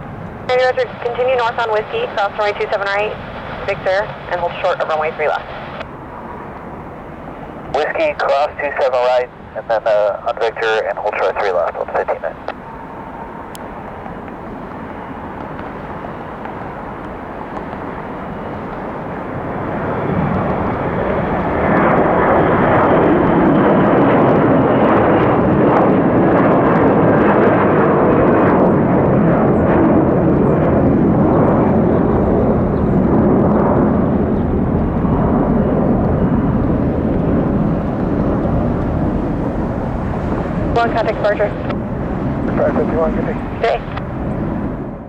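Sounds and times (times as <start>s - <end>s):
jet engines at takeoff: 0.0s - 45.0s.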